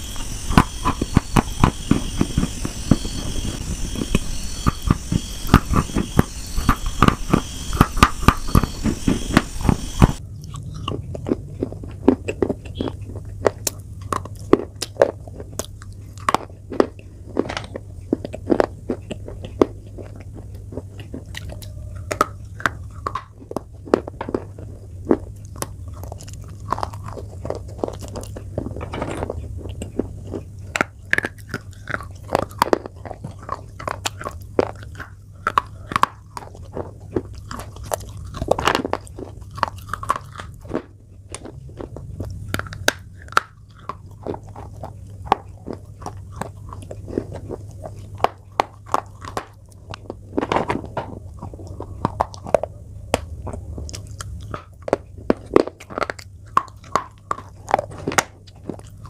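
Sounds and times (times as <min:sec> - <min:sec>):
chalk crunching between teeth: 0:00.0 - 0:50.2.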